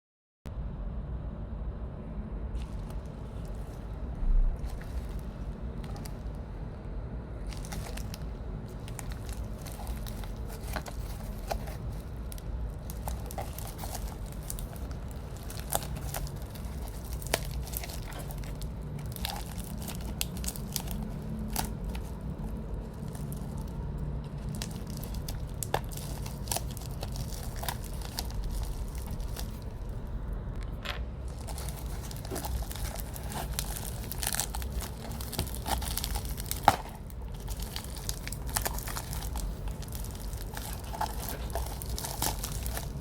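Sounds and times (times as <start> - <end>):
low steady hum: 0.5 - 43.0
packaging crinkling and tearing: 4.5 - 6.5, 7.4 - 30.1, 31.2 - 43.0.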